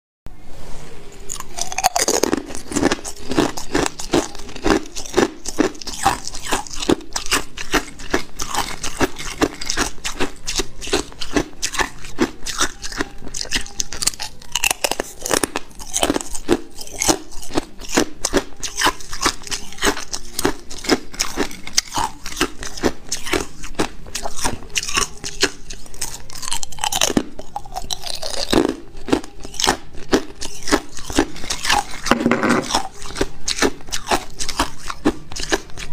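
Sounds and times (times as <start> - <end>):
ice being chewed crunching: 1.3 - 35.9.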